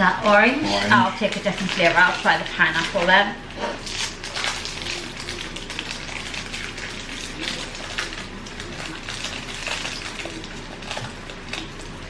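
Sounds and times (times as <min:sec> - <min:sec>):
sweet wrapper crinkling: 0:00.8 - 0:12.0.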